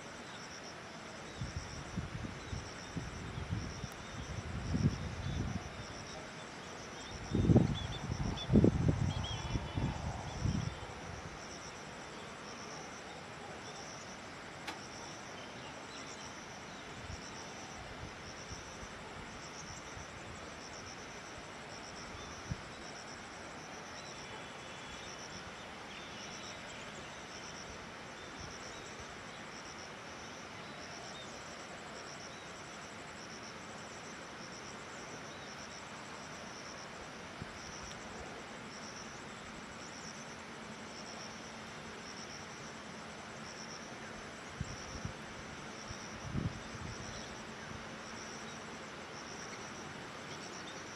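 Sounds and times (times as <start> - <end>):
background hiss: 0.0 - 50.9
insects chirping: 0.0 - 50.9.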